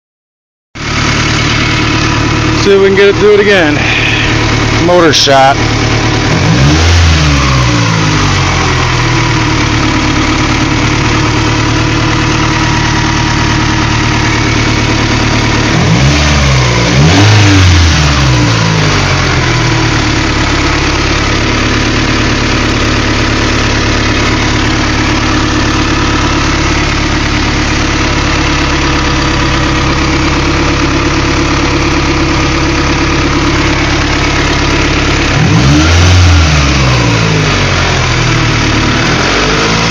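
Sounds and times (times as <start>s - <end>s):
car engine idling and revving: 0.8s - 39.9s.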